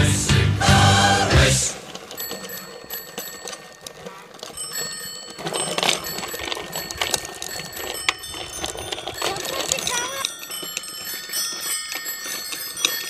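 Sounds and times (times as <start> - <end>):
bicycle wheels rattling on concrete: 0.2 - 13.0.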